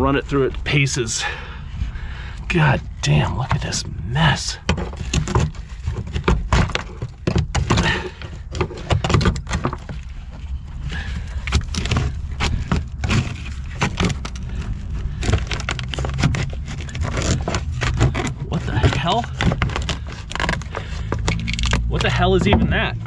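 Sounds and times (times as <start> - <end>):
hard objects clattering and scraping: 2.5 - 23.0.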